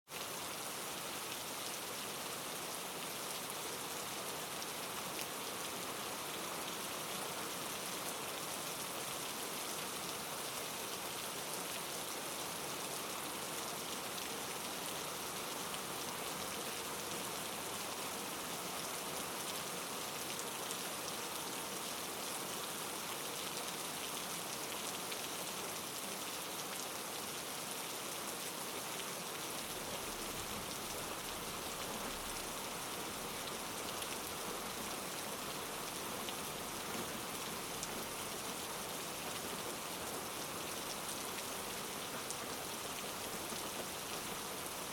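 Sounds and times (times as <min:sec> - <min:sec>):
steady rainfall: 0:00.1 - 0:44.9.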